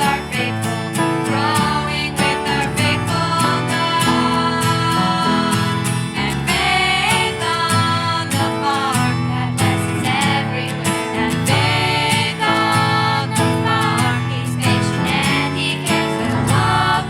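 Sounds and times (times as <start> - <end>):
person singing: 0.0 - 17.0
strummed acoustic guitar: 0.0 - 17.0.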